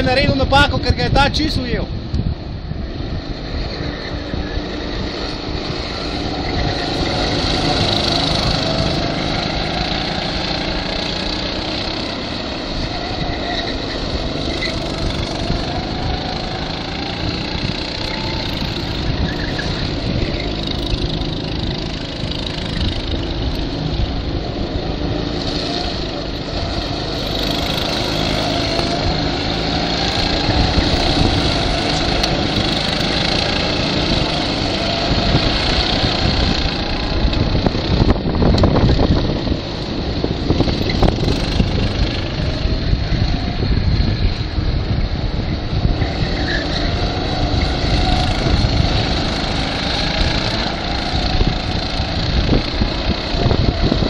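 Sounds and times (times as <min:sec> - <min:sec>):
go-kart engines racing: 0:00.0 - 0:54.0.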